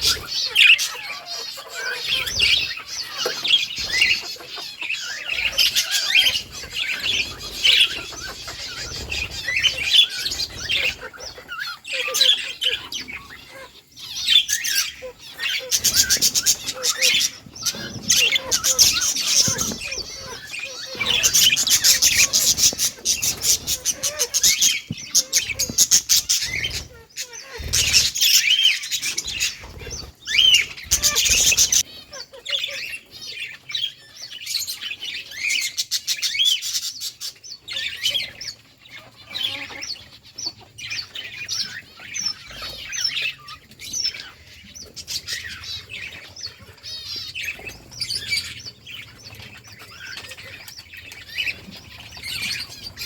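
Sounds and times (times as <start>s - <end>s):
budgerigars chirping: 0.0s - 53.0s.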